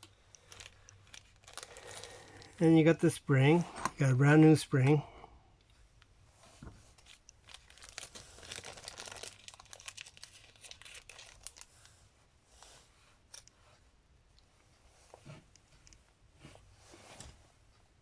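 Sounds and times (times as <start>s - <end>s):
faint rustling and crinkling: 0.0s - 4.1s, 5.5s - 18.0s.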